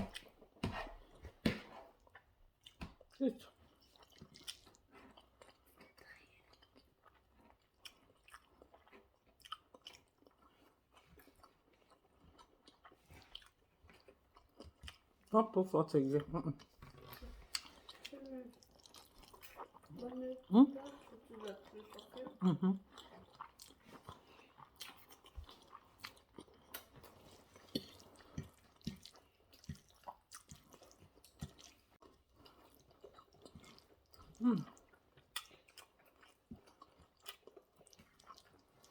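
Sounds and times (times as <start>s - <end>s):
person chewing food: 0.0s - 15.3s, 16.0s - 38.9s.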